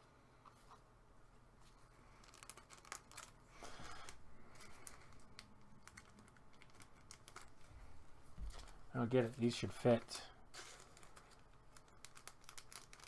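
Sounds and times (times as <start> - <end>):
trading cards rustling: 1.6 - 7.8, 8.4 - 13.0.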